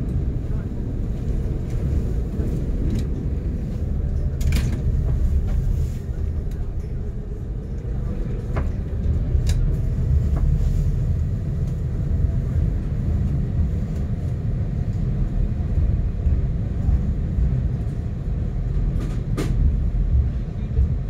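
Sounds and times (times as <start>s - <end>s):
river boat rumbling: 0.0s - 21.0s.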